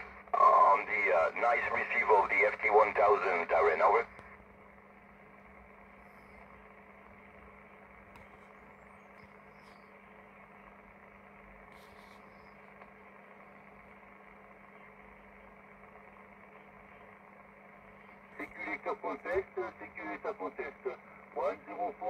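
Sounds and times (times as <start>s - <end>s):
radio static hiss and hum: 0.0s - 22.0s.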